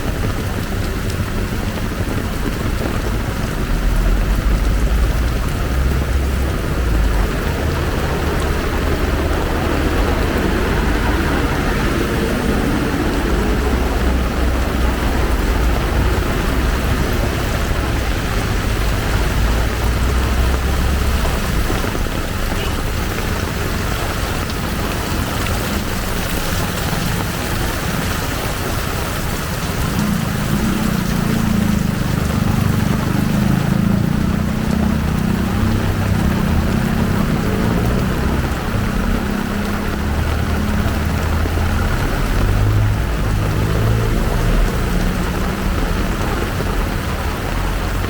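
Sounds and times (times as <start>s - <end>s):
heavy rain pouring: 0.0s - 48.0s
vehicle engines running: 0.0s - 48.0s.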